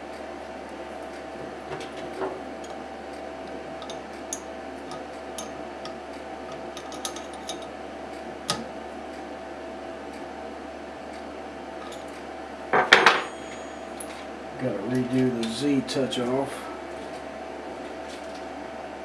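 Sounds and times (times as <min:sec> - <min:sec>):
background hum: 0:00.0 - 0:19.0.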